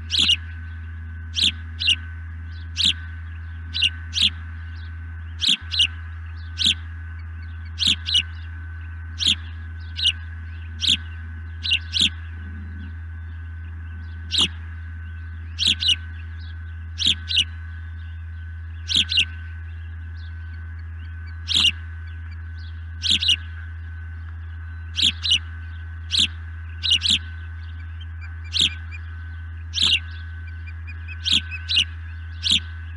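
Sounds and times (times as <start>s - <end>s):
bird of prey chirping: 0.0s - 32.9s.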